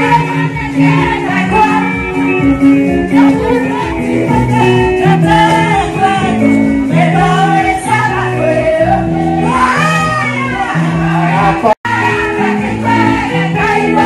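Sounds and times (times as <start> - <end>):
amplified instrumental backing: 0.0 - 14.0
women singing gospel together: 0.0 - 14.0.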